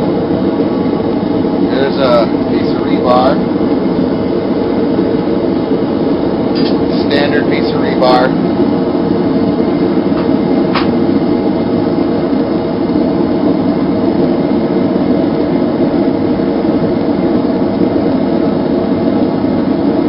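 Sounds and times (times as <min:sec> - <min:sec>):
gas forge burner roaring: 0:00.0 - 0:20.0.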